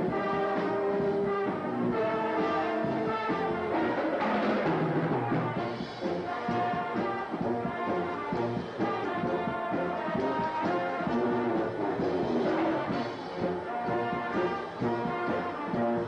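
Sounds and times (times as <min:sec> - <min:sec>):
brass band playing: 0:00.0 - 0:16.0
percussion: 0:00.0 - 0:16.0.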